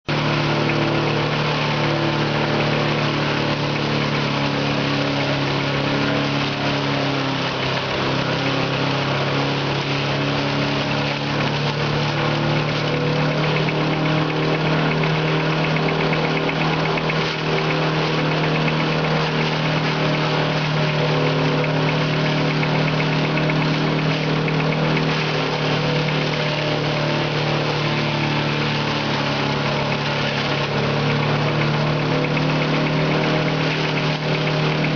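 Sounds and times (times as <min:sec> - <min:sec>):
engine hum: 0:00.0 - 0:34.9
crusher chopping grass: 0:00.1 - 0:34.9.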